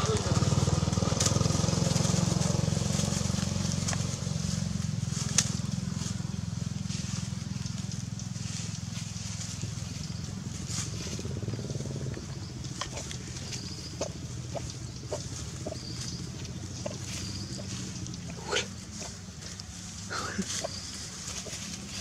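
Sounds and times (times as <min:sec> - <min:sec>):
dry leaves crackling: 0:00.0 - 0:22.0
low engine hum: 0:00.0 - 0:22.0.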